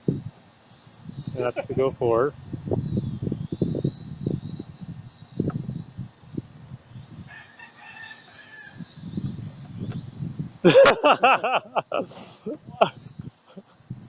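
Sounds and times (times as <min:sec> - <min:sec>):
drone propellers whining: 0:00.0 - 0:14.0
wind rumbling on microphone: 0:00.0 - 0:14.0.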